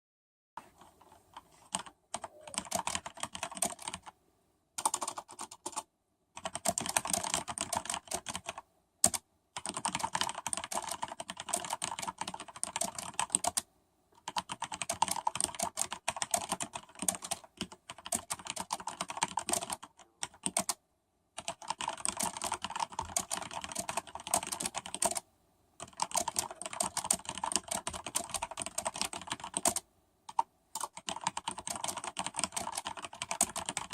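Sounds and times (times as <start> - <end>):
mechanical keyboard typing: 0.8 - 4.1, 4.8 - 13.6, 14.2 - 20.8, 21.4 - 25.2, 25.8 - 33.9.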